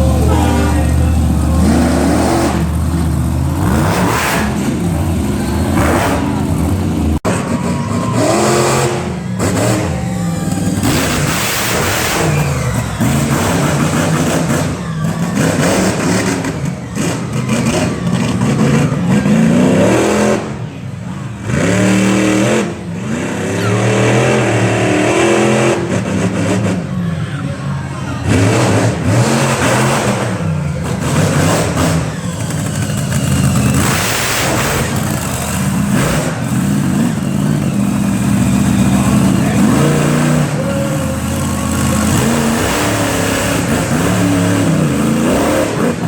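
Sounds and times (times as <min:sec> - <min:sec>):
monster truck engine revving: 0:00.0 - 0:46.0.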